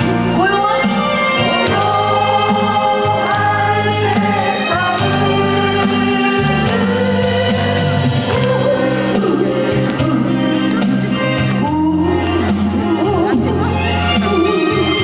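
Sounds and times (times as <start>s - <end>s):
band accompaniment: 0.0s - 15.0s
woman singing: 0.0s - 15.0s.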